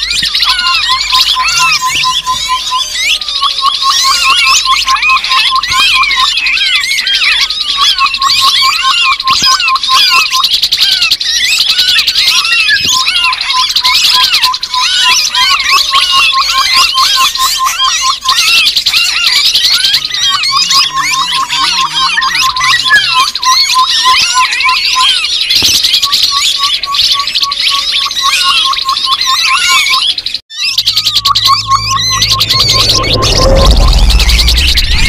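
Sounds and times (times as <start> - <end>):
birds chirping and chattering: 0.0 - 35.0
rapid whistled notes: 0.0 - 35.0.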